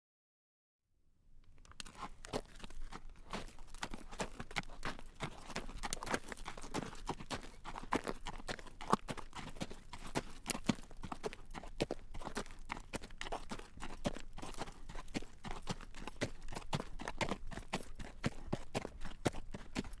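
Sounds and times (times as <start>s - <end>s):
hooves clip-clopping on pavement: 1.6s - 20.0s.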